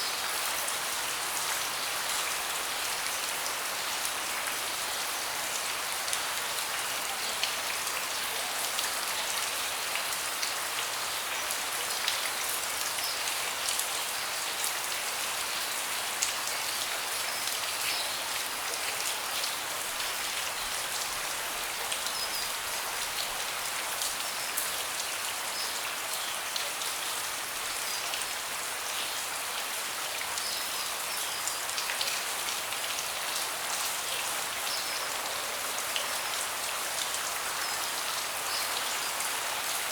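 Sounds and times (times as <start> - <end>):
rain falling on a deck: 0.0 - 39.9.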